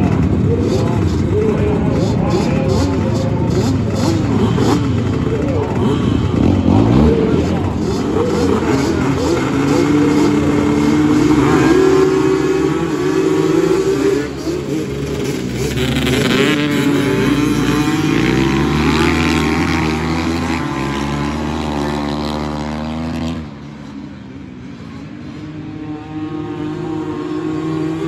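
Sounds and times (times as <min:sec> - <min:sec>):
racing atv engines revving: 0:00.0 - 0:28.0.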